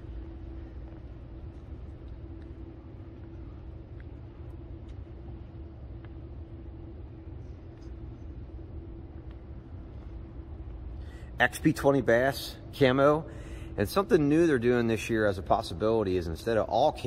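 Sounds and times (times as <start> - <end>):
faint constant hum: 0.0 - 17.0
low room rumble: 0.0 - 17.0.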